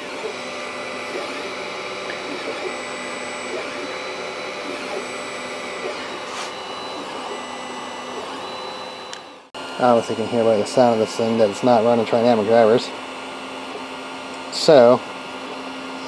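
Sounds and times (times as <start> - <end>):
steady mechanical hum: 0.0 - 16.0
stepper motors whining: 0.0 - 16.0.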